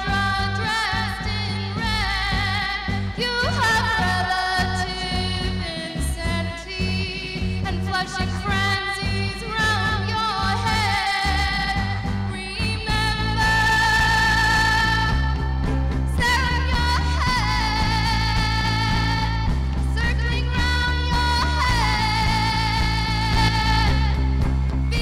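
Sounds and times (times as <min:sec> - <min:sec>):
electric bass: 0:00.0 - 0:25.0
electric guitar: 0:00.0 - 0:25.0
woman singing with vibrato: 0:00.0 - 0:25.0.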